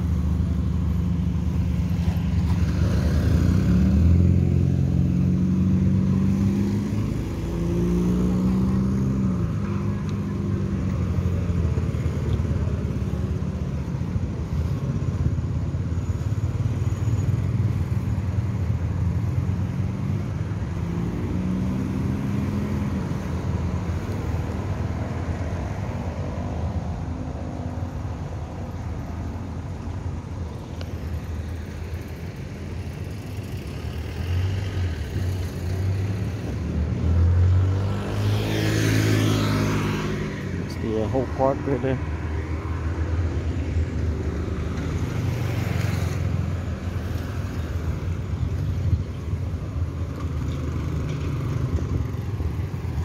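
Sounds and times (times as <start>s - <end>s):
loud vehicle passing: 0.0s - 29.8s, 30.9s - 53.0s
cars and motorbikes passing: 0.0s - 53.0s.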